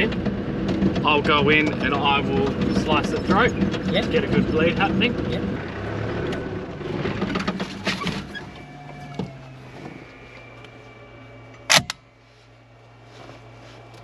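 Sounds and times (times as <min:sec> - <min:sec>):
vehicle engine running with rattles: 0:00.0 - 0:14.0.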